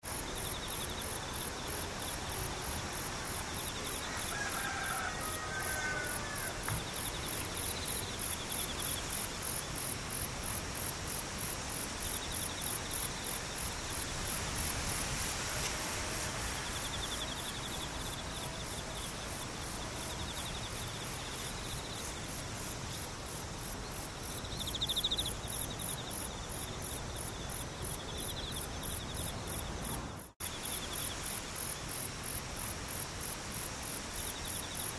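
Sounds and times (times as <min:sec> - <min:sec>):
low insect trill: 0:00.1 - 0:34.9.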